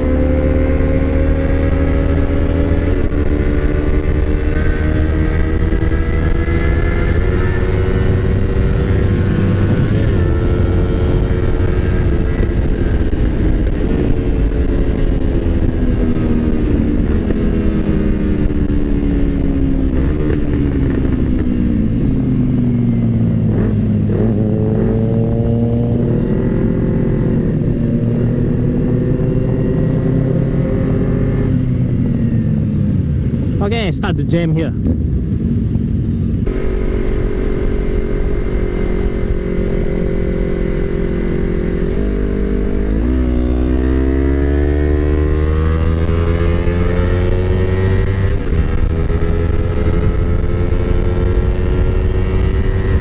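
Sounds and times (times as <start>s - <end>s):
motorcycle engine running: 0.0s - 33.9s, 34.6s - 53.0s
wind rush: 0.0s - 53.0s.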